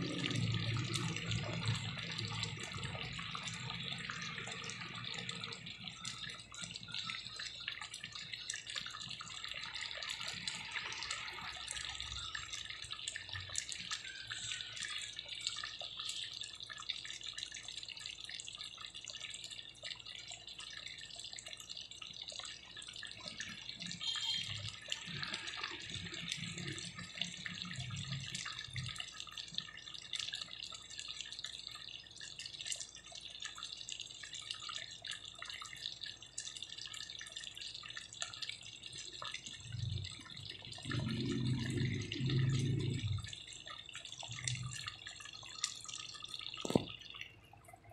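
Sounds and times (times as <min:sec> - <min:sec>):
stew bubbling in a pot: 0:00.0 - 0:47.9.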